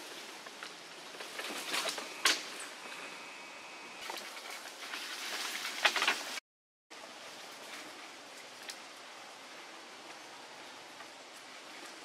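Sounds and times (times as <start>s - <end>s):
leaves and twigs rustling: 0.0s - 6.4s, 7.0s - 12.0s
steady outdoor hiss: 0.0s - 12.0s.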